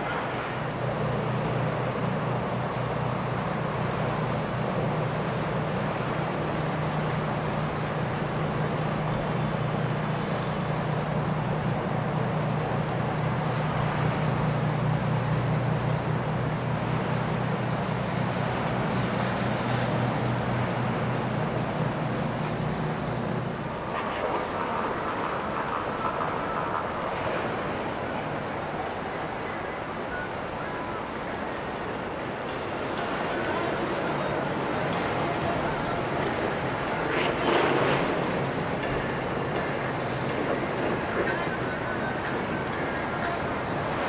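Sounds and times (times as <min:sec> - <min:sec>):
boat engine running: 0:00.0 - 0:44.0
water rushing: 0:00.0 - 0:44.0.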